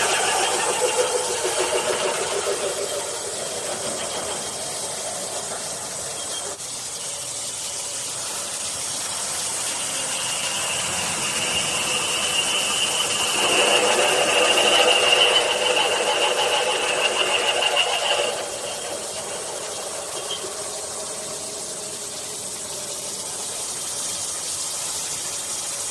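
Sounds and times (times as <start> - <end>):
drilling machine hissing: 0.0 - 25.9
high steady squeal: 0.0 - 25.9.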